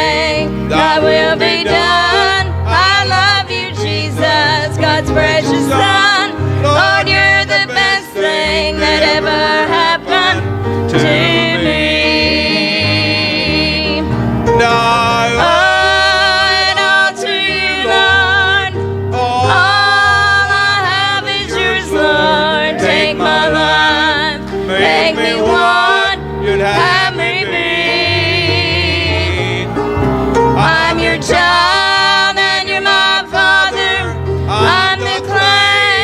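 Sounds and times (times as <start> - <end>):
country gospel song: 0.0 - 36.0.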